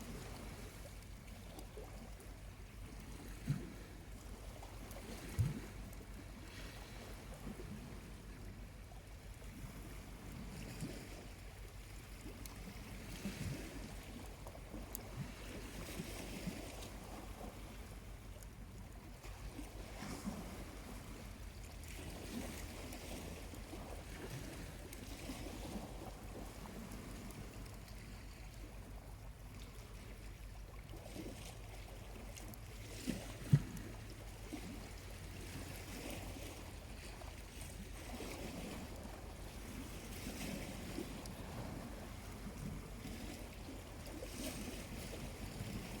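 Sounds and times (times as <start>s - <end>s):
small waves washing onto shore: 0.0s - 46.0s.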